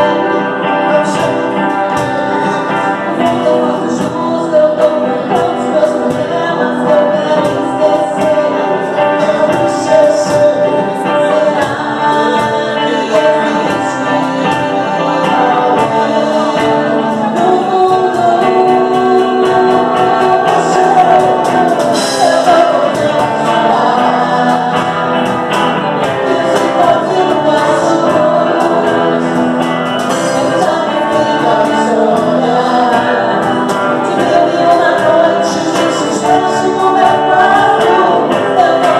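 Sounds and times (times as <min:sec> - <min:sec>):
cajon percussion: 0:00.0 - 0:38.9
electric guitar: 0:00.0 - 0:38.9
man singing: 0:00.0 - 0:38.9
woman singing: 0:00.0 - 0:38.9.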